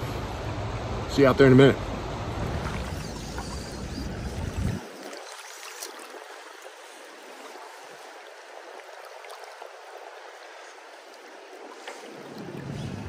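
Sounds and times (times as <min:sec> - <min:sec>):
river water flowing over rocks: 0:02.3 - 0:13.0.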